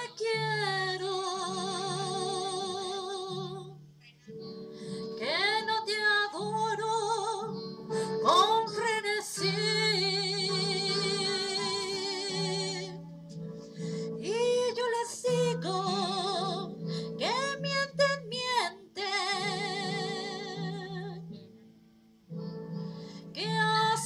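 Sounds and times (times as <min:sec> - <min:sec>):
woman singing into a microphone: 0:00.0 - 0:03.8, 0:04.9 - 0:21.4, 0:23.2 - 0:24.0.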